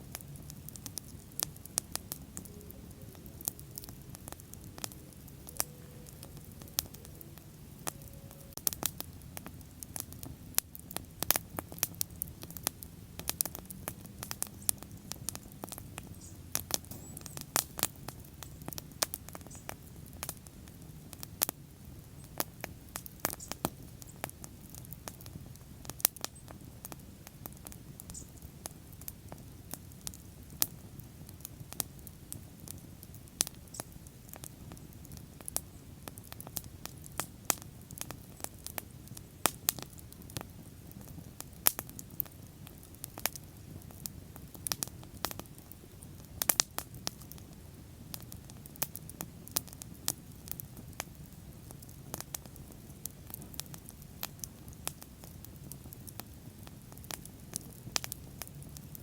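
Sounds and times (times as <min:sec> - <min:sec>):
bonfire crackling: 0:00.0 - 0:59.0.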